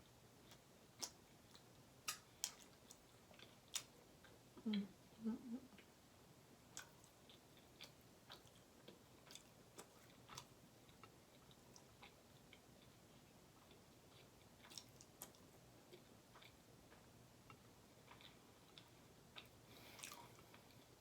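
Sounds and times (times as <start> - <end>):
person chewing: 0.4 - 4.4, 6.7 - 16.6, 17.5 - 21.0.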